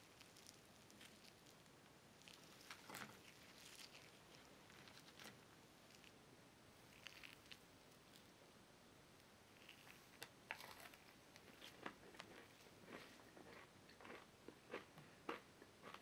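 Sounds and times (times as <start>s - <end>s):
cornbread being bitten and chewed: 0.0s - 6.2s, 6.8s - 8.4s, 9.5s - 16.0s.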